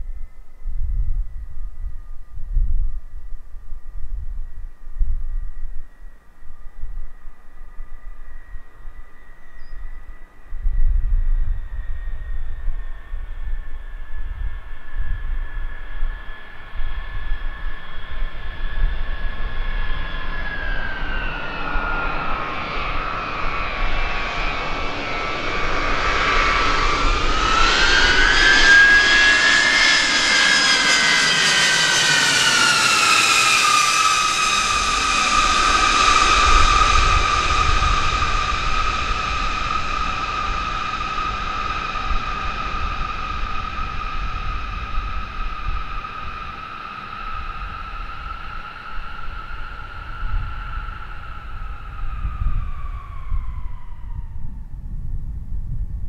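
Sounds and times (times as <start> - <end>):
jet engines whining overhead: 6.6 - 56.0.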